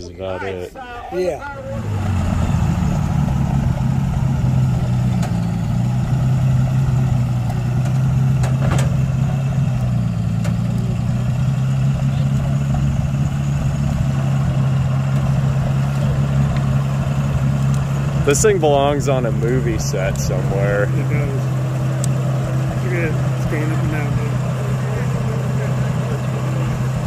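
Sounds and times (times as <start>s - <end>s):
truck engine idling: 0.0s - 27.0s.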